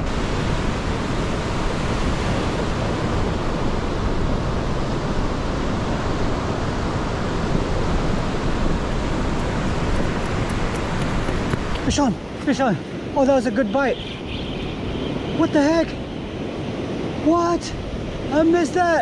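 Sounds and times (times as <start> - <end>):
ocean surf washing: 0.0 - 19.0
wind rushing over microphone: 0.0 - 19.0.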